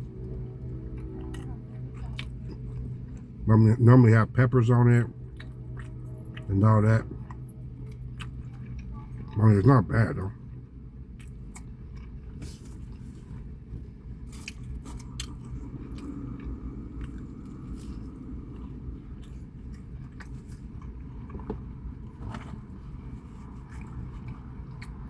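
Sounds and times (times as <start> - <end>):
steady low hum: 0.0 - 25.0
chewing and biting: 0.2 - 3.4, 5.2 - 6.5, 7.2 - 9.4, 11.0 - 25.0.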